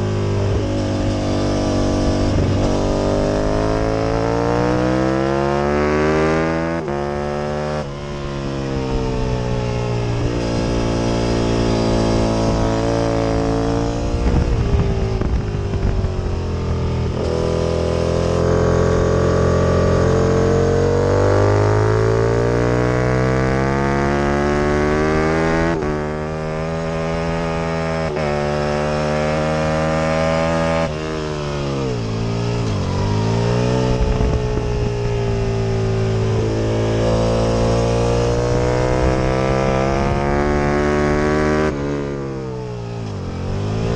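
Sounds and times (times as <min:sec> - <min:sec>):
racing motorcycle engine revving: 0:00.0 - 0:43.9.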